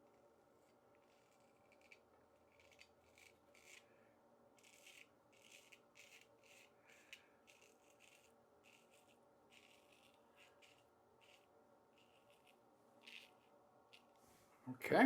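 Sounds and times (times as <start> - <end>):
razor scraping stubble: 0.6 - 3.9, 4.6 - 14.2.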